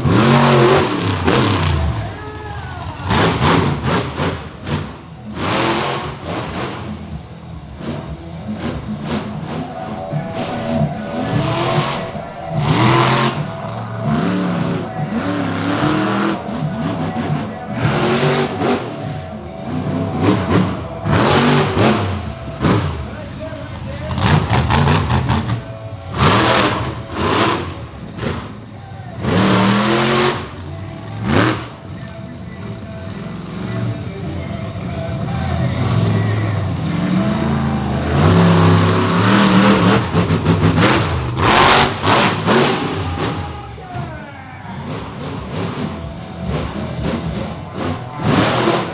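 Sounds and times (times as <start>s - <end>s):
monster truck engines revving: 0.0s - 48.9s
music playing: 0.0s - 48.9s.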